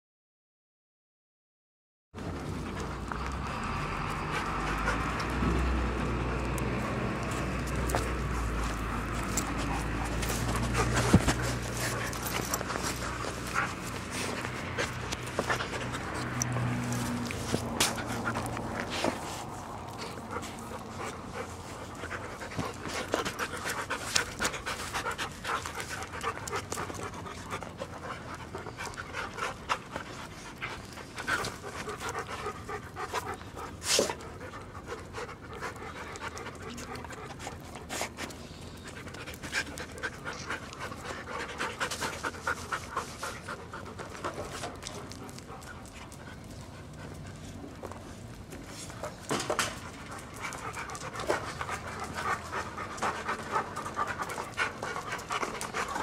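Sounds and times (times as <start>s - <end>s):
dog panting: 2.2s - 56.0s.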